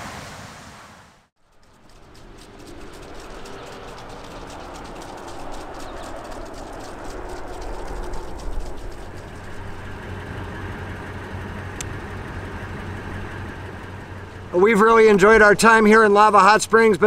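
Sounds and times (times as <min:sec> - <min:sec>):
car engine idling: 0:01.4 - 0:17.0
sprinklers hissing and ticking: 0:01.4 - 0:17.0.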